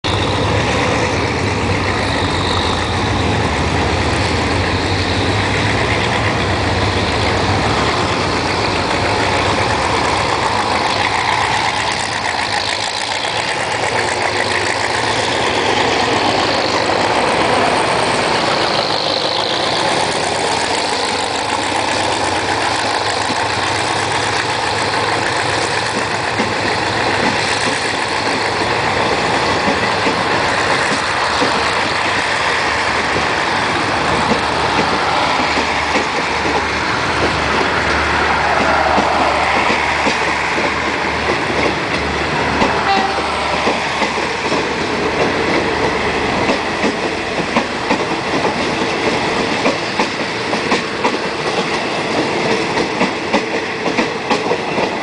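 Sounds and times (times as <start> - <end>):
locomotive engine rumbling: 0.0 - 55.0
train coaches rolling: 0.0 - 55.0.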